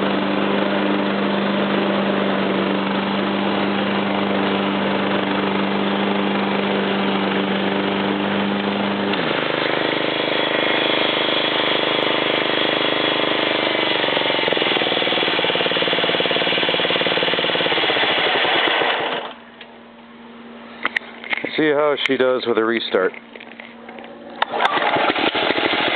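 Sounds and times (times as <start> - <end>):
lawnmower engine running: 0.0 - 19.8, 20.7 - 25.9.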